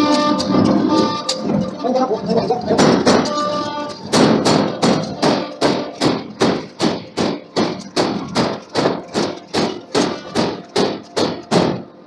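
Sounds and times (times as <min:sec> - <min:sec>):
hammer striking hot steel: 0:00.0 - 0:11.9.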